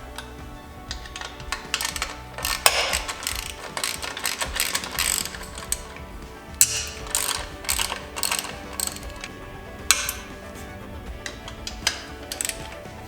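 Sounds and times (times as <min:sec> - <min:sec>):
ratchet wrench clicking: 0:00.0 - 0:10.6, 0:11.2 - 0:13.0
faint background music: 0:00.0 - 0:13.0.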